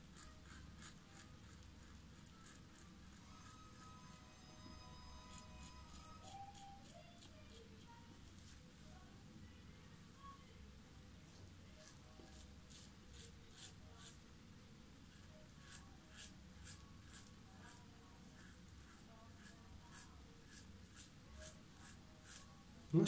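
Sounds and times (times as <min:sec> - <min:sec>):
razor scraping stubble: 0:00.0 - 0:08.6, 0:11.8 - 0:14.2, 0:15.1 - 0:23.0.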